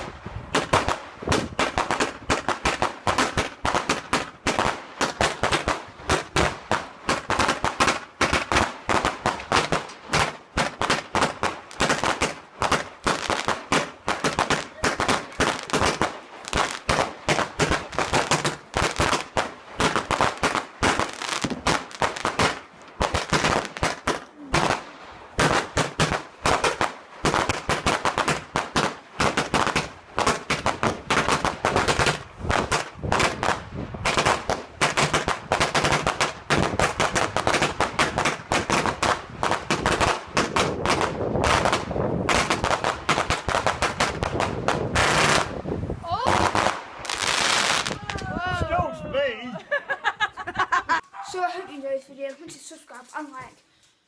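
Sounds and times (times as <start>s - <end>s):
fireworks bangs and crackles: 0.0s - 48.8s.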